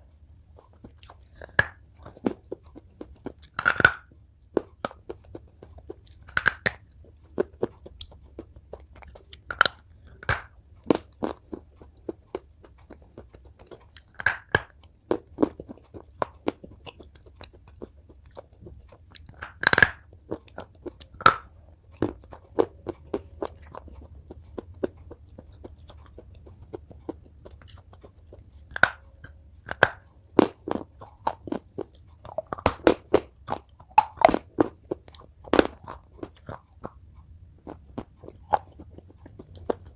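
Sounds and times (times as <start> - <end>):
crunchy biting and chewing: 0.0 - 39.9.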